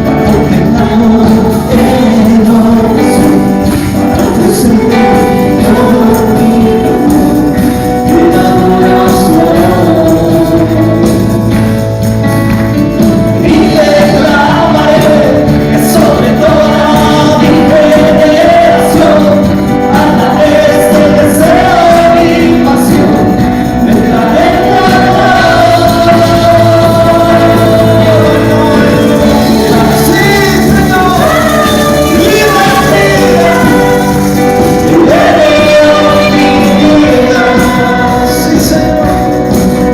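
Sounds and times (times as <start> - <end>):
band accompaniment: 0.0 - 39.9
voices singing praise song: 0.0 - 39.9.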